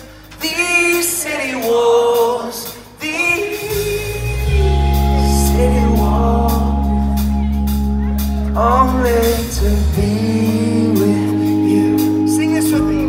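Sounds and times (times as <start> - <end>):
live rock band playing: 0.0 - 13.0
man singing: 0.0 - 13.0.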